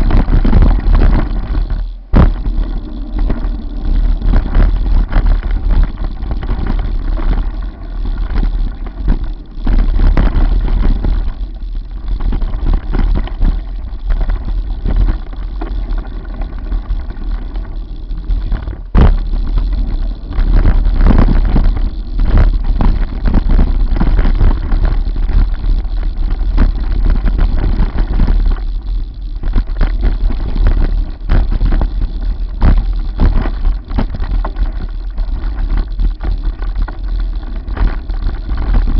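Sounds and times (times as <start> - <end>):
bike and mount rattling: 0.0 - 38.9
wind buffeting microphone: 0.0 - 38.9.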